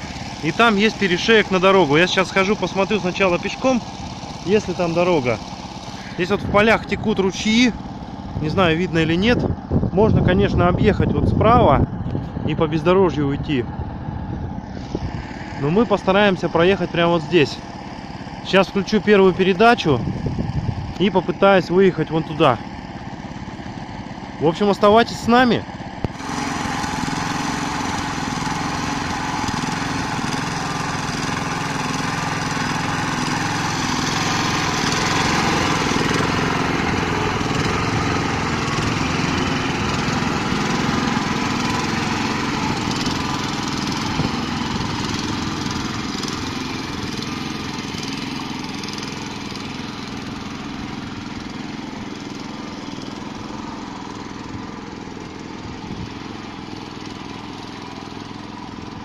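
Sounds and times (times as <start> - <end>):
walk-behind tractor engine running: 0.0 - 59.0.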